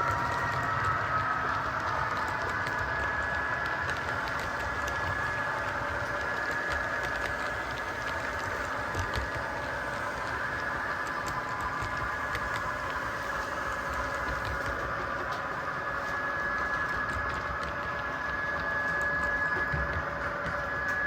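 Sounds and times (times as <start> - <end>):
model train motor whine: 0.0 - 21.0
wheels clicking over rails: 0.0 - 21.0.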